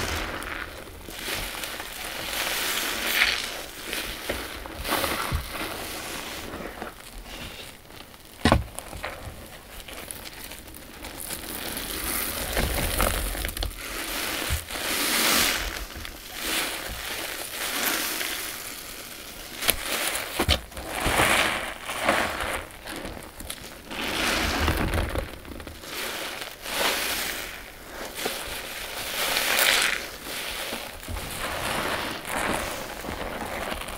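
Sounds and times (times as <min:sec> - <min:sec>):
sponge squeezed crackly squelch: 0:00.0 - 0:33.9.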